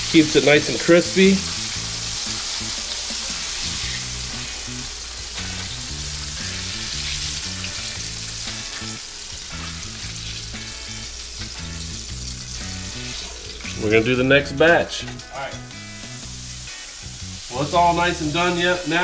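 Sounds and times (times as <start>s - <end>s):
fish frying in hot oil: 0.0s - 19.0s
background music with bass line: 1.2s - 19.0s.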